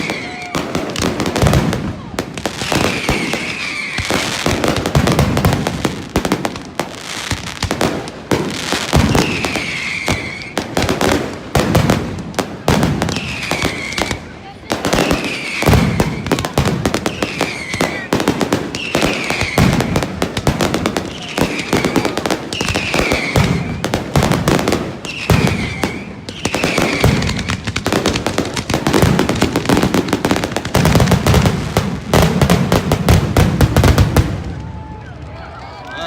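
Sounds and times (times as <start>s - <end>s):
fireworks crackles and bangs: 0.0s - 36.0s.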